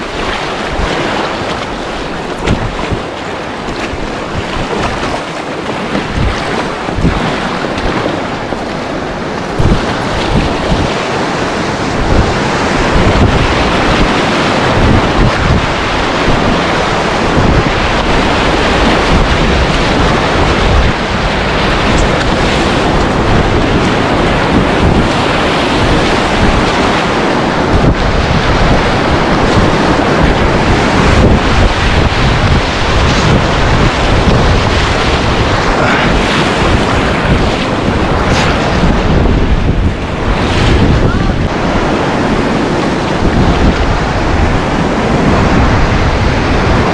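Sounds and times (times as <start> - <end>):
river rapids roaring: 0.0 - 46.9
wind buffeting microphone: 0.0 - 46.9.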